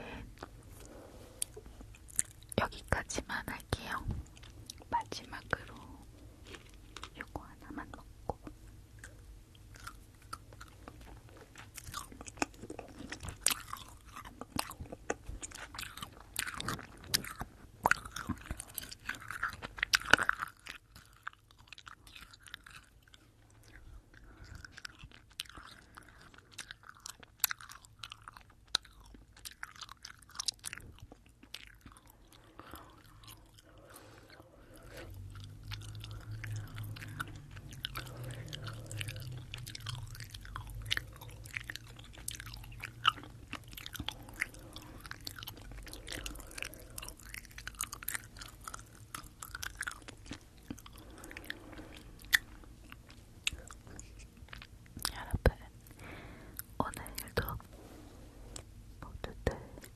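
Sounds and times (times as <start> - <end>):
wet chewing of gummy candy: 0.0 - 57.7
mouth clicks and smacks: 6.5 - 33.6, 34.3 - 56.0.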